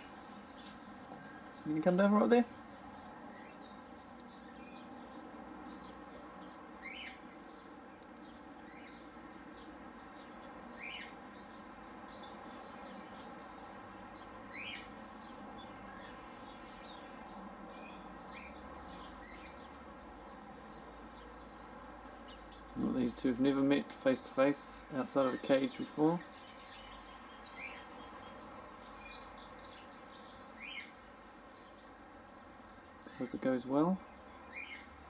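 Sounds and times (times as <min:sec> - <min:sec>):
faint high bird tweets: 0:00.0 - 0:23.8, 0:24.8 - 0:35.0
small birds chirping: 0:00.0 - 0:35.0.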